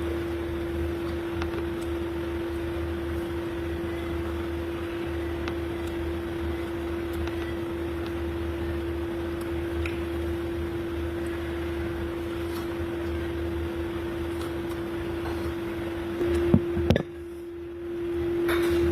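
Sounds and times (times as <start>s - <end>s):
machine hum: 0.0s - 18.9s.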